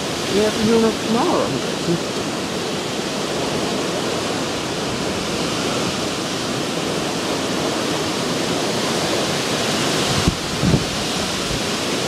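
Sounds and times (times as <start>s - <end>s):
strong wind blowing: 0.0s - 12.0s.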